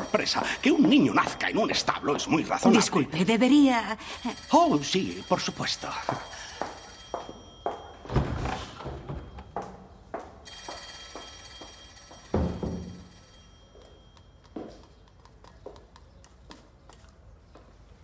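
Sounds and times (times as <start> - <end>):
telephone bell ringing: 0.0 - 14.5.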